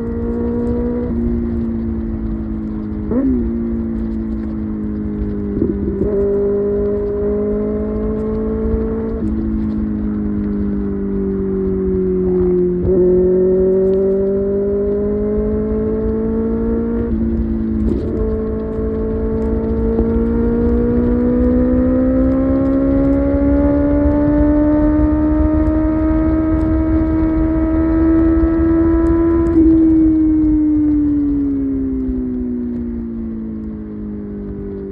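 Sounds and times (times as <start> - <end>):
motorcycle engine at highway speed: 0.0 - 34.9.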